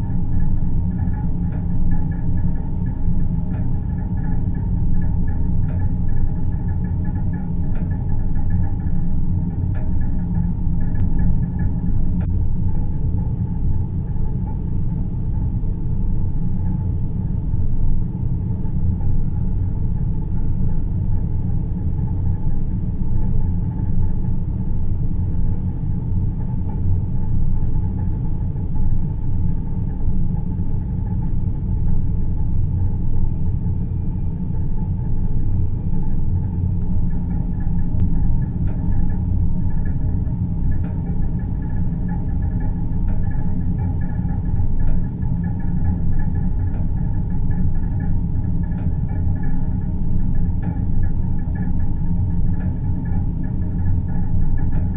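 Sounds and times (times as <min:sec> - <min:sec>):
dense low rumble: 0:00.0 - 0:54.9
soft hum: 0:00.0 - 0:54.9.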